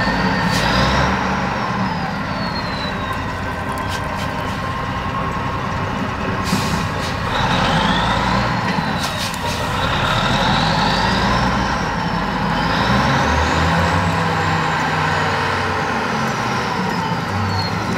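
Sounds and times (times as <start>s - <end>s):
engine whine: 0.0s - 17.9s
wheel loader diesel engine: 0.0s - 17.9s.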